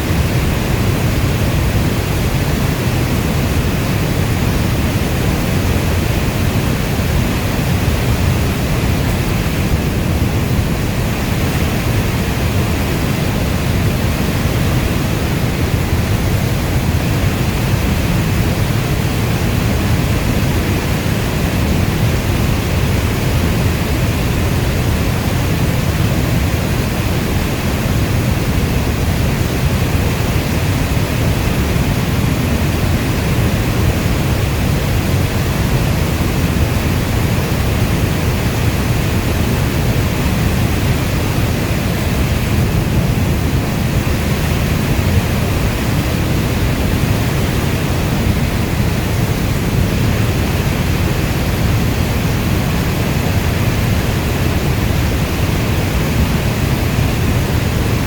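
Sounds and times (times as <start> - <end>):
steady rainstorm noise: 0.0 - 58.0.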